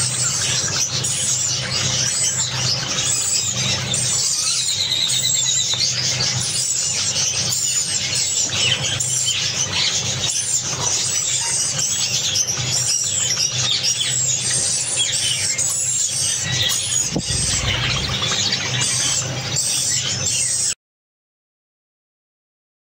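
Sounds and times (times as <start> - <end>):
low steady hum: 0.0 - 20.2
sparrows chirping: 0.0 - 20.8.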